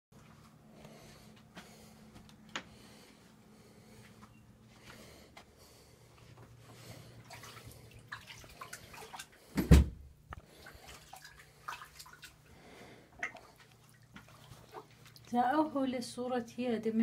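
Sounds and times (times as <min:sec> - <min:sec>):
low steady hum: 0:00.2 - 0:17.0.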